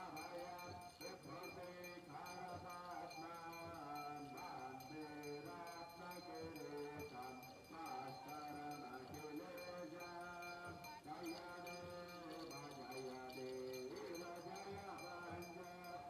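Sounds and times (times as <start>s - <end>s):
person chanting a hymn: 0.0s - 16.0s.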